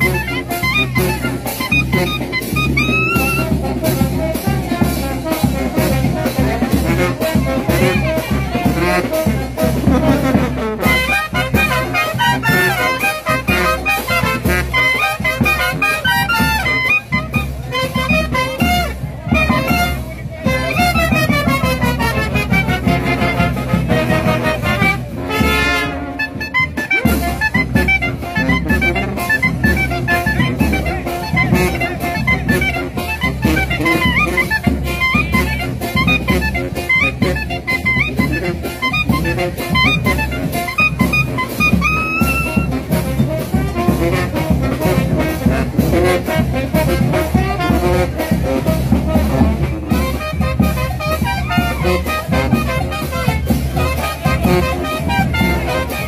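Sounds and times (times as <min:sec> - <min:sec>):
brass horns: 0:00.0 - 0:56.0
drums keeping a beat: 0:00.0 - 0:56.0.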